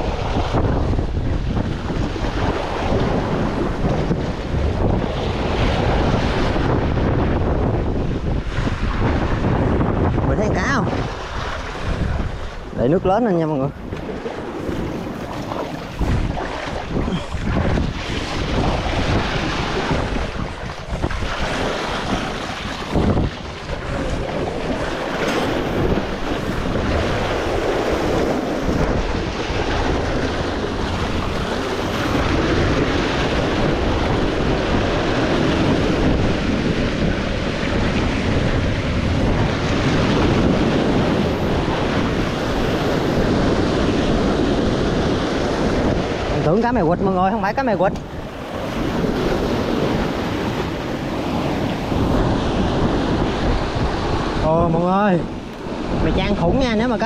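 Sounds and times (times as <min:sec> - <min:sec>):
sea waves breaking: 0:00.0 - 0:57.0
wind buffeting microphone: 0:00.0 - 0:57.0.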